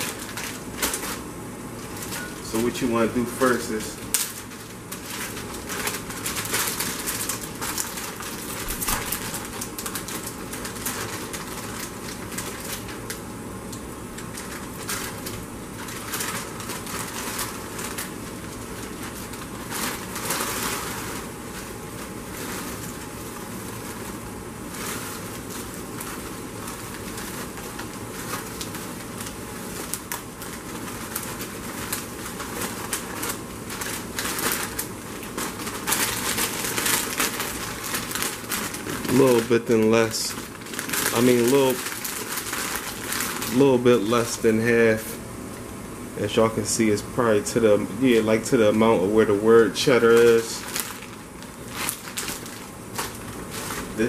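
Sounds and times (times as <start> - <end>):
puffs poured into plastic bag: 0.0 - 13.3, 14.1 - 45.2, 47.4 - 54.0
plastic snack bag crinkling: 0.0 - 45.2, 46.2 - 54.0.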